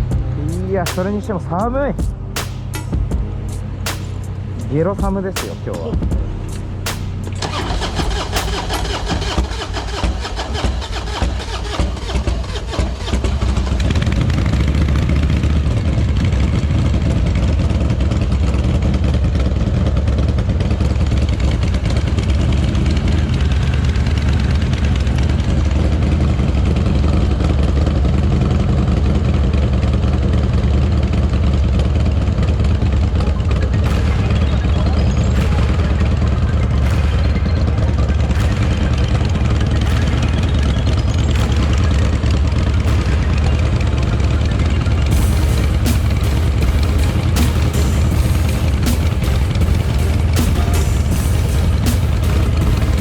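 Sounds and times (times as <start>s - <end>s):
motorcycle engine idling: 7.4s - 53.0s.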